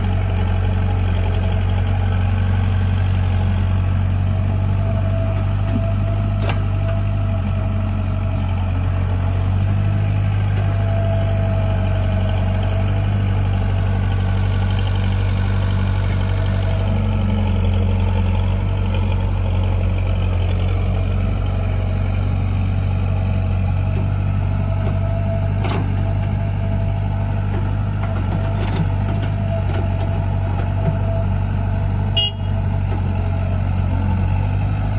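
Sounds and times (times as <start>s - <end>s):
diesel engines running: 0.0s - 34.9s.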